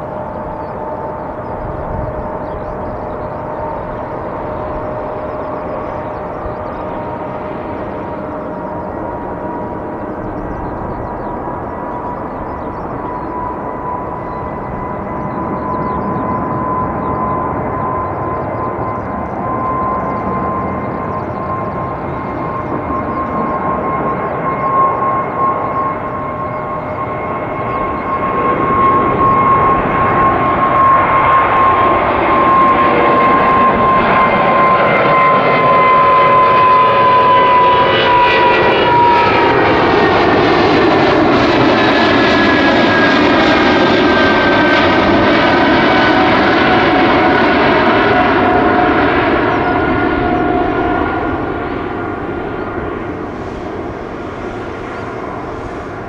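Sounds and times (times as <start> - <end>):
engine fan whine: 0.0 - 56.0
jet airliner passing overhead: 0.0 - 56.0.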